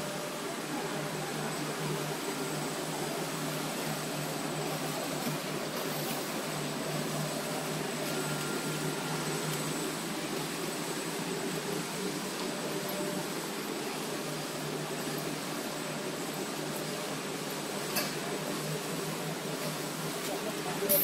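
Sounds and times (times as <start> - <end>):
machine whirring with whine: 0.0 - 21.0.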